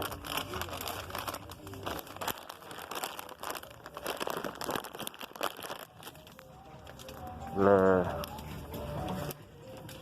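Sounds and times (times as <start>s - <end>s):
rustling and crinkling handling noise: 0.0s - 10.0s.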